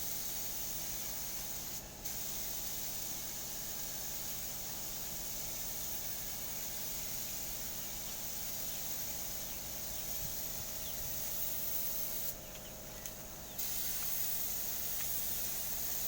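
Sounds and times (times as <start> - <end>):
paint spray hissing: 0.0 - 16.0.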